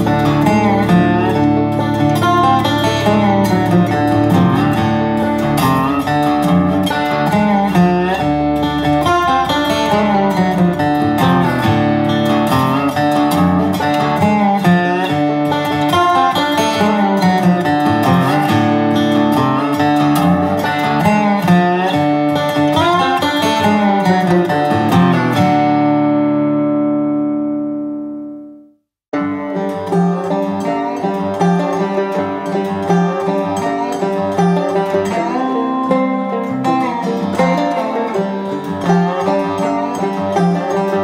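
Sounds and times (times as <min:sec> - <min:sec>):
guitar picking: 0:00.0 - 0:41.0.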